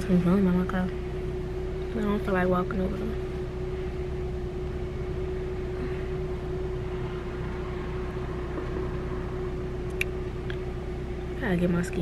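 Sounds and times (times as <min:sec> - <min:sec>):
car engine hum: 0:00.0 - 0:12.0.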